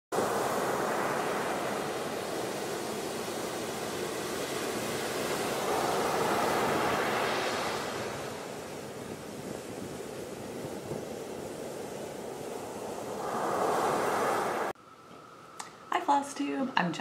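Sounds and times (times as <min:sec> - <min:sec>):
surf breaking on pebble beach: 0:00.2 - 0:14.8.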